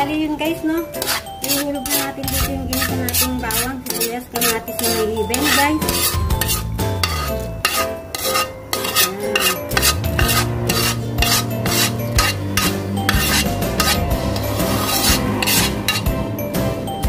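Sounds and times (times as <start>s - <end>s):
background music: 0.0s - 17.0s
metal spoon scraping a pot: 1.0s - 16.2s.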